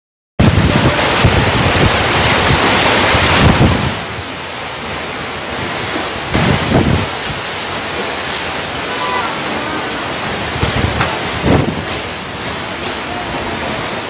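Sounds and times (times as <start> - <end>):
strong wind buffeting microphone: 0.4 - 14.0.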